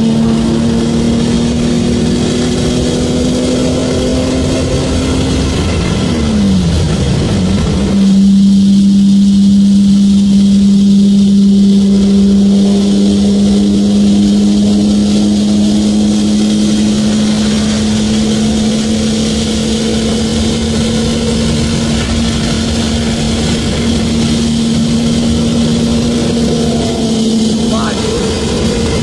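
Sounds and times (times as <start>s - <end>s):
car engine at high revs: 0.0s - 29.0s
wind and road rush: 0.0s - 29.0s.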